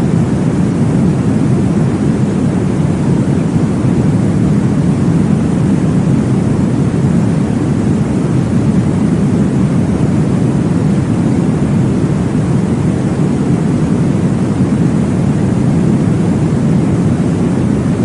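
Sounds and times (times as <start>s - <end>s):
deep whooshing white noise: 0.0s - 18.0s.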